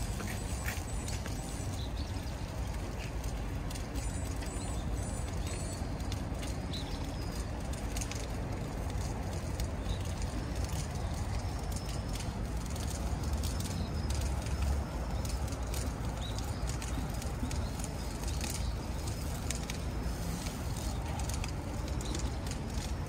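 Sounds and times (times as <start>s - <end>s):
bonfire crackling: 0.0s - 23.0s.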